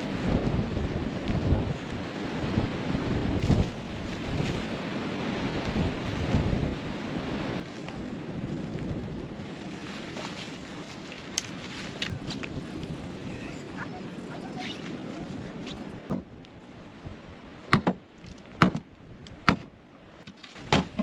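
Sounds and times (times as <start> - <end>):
gusty wind rumbling on microphone: 0.0 - 17.8.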